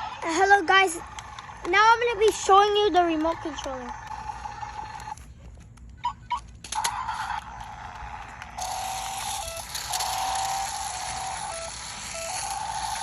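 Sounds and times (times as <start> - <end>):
toy car electronic whine: 0.0 - 5.3, 6.0 - 13.0.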